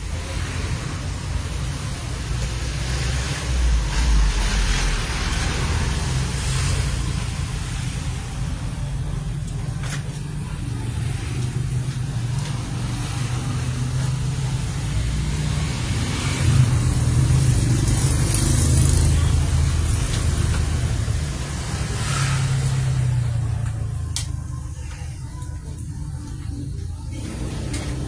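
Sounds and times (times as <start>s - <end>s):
low mechanical rumble: 0.0s - 28.0s.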